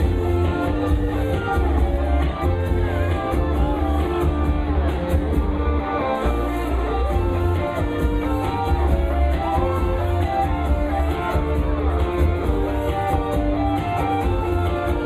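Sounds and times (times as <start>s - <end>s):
electric bass line: 0.0s - 15.0s
electric guitar melody: 0.0s - 15.0s
steady drum beat: 0.0s - 15.0s.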